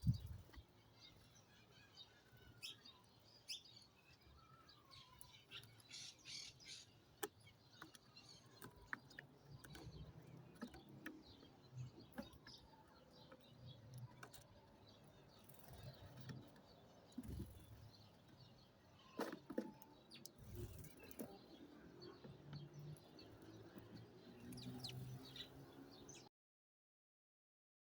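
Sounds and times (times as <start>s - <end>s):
small birds chirping: 0.0s - 26.3s.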